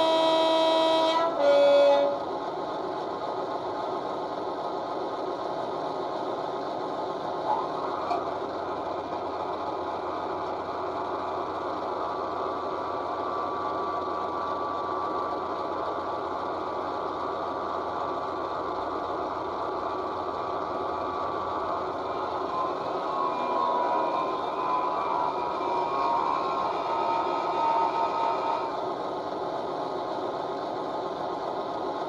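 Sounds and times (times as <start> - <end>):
diesel engine idling through speakers: 2.0 - 32.0.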